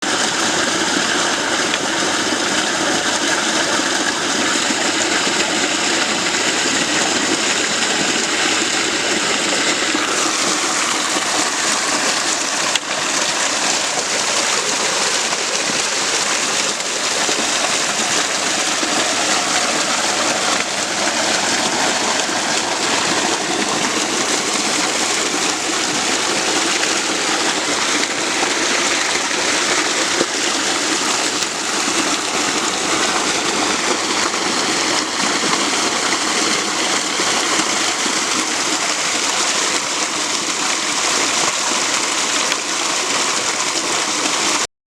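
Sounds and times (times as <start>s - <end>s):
water gushing from pump outlet: 0.0s - 44.7s.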